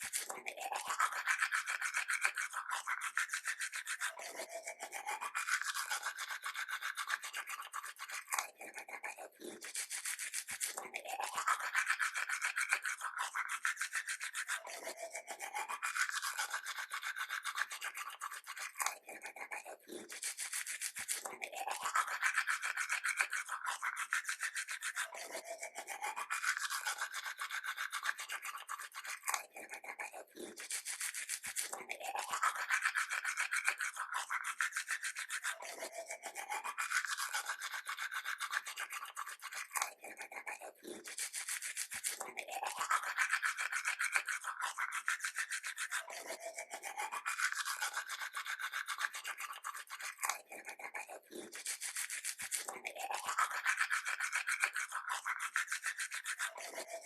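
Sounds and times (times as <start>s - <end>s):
toothbrush scrubbing teeth: 0.0s - 57.0s.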